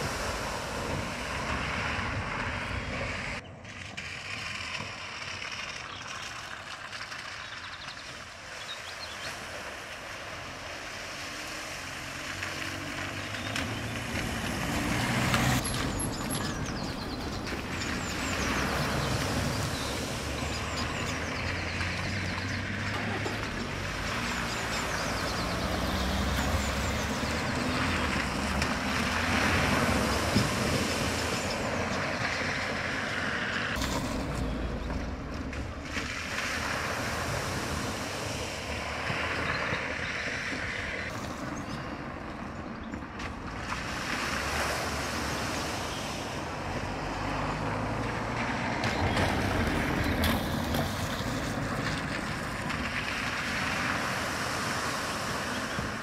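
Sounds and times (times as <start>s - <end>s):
tyres splashing through water: 0.0s - 56.0s.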